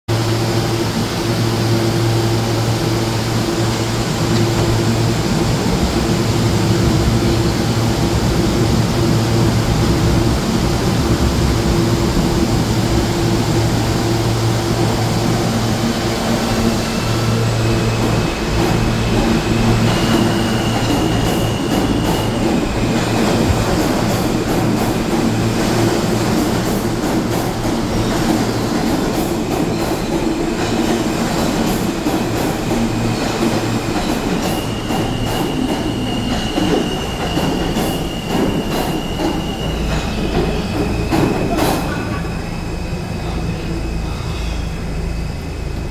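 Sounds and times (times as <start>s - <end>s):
train electrical hum: 0.1s - 45.9s.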